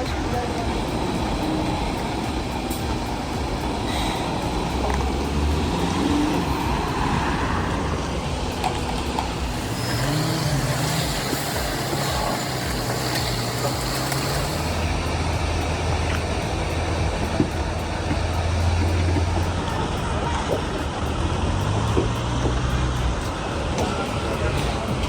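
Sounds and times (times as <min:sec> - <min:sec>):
heavy truck engines running: 0:00.0 - 0:25.0
road and traffic noise: 0:00.0 - 0:25.0.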